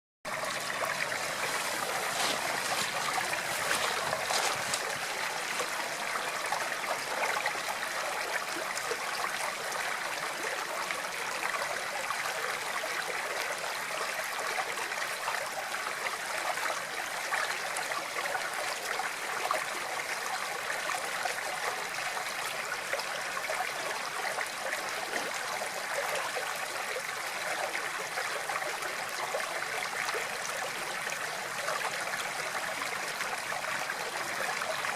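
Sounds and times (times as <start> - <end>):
stream trickling: 0.3 - 34.9.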